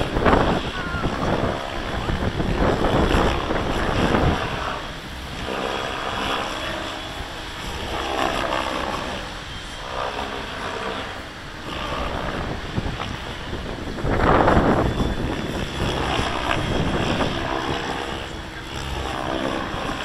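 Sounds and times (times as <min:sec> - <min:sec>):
rc helicopter rotor whirring: 0:00.0 - 0:20.0
wind buffeting microphone: 0:00.0 - 0:20.0.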